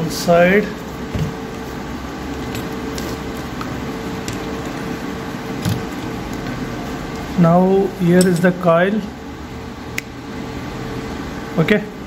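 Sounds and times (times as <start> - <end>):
steady hum with tone: 0.0 - 12.0.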